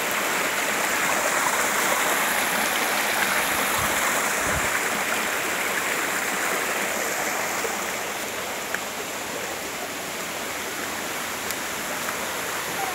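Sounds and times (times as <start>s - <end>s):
stream splashing over rocks: 0.0s - 12.9s.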